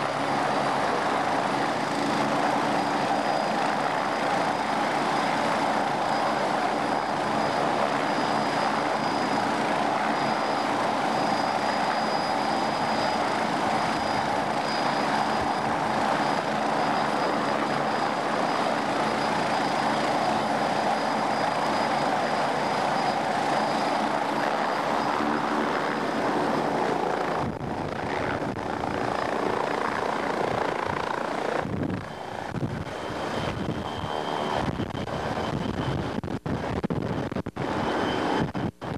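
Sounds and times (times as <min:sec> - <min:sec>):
helicopter turbines and rotor: 0:00.0 - 0:38.9
high turbine whine: 0:00.0 - 0:38.9.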